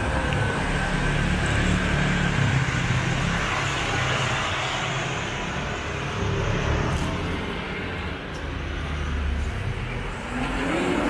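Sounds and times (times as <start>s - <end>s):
scooters and cars passing: 0.0s - 11.0s.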